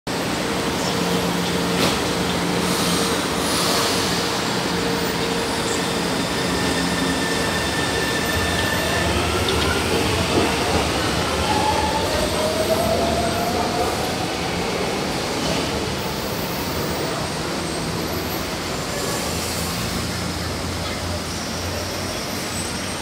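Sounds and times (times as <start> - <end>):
trains running: 0.1 - 23.0.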